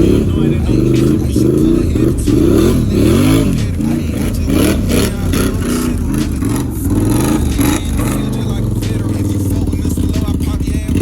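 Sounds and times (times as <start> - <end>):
off-road vehicle engine: 0.0 - 11.0.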